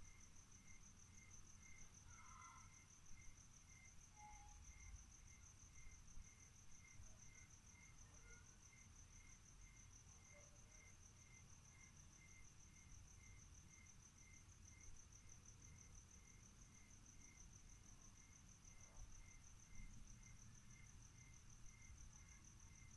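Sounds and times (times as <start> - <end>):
insect chirping: 0.0 - 22.9.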